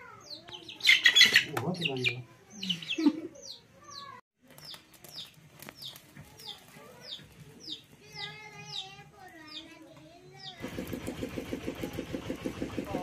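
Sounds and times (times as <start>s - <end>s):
bird chirping: 0.0s - 10.7s.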